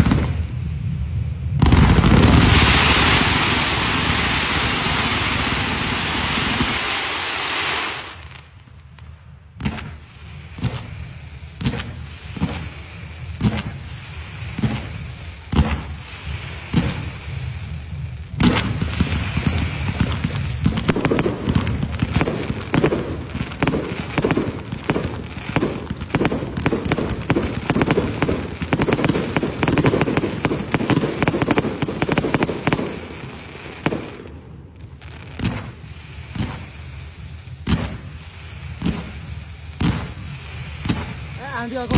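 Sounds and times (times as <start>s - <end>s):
firecracker fuse hissing: 0.0s - 8.6s, 9.6s - 41.9s
firecracker bangs: 0.0s - 41.9s.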